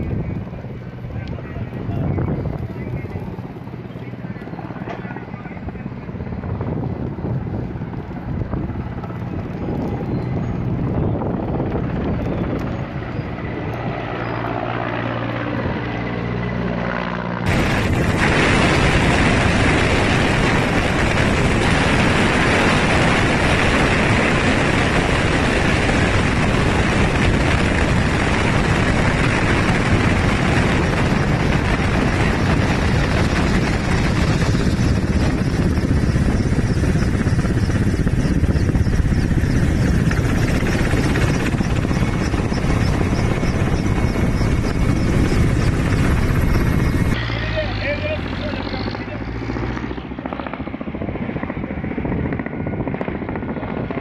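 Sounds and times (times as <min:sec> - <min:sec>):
helicopter flying: 0:00.0 - 0:54.0.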